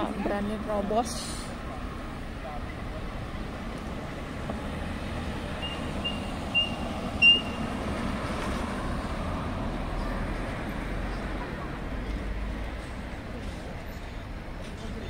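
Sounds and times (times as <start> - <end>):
electric scooters going by: 0.0 - 15.0
street traffic: 0.0 - 15.0
car passing with low rumble: 1.5 - 15.0.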